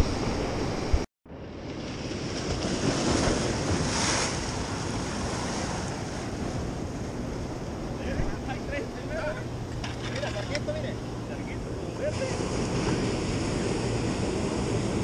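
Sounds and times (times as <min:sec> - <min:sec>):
surf washing against rocks: 0:00.0 - 0:15.0.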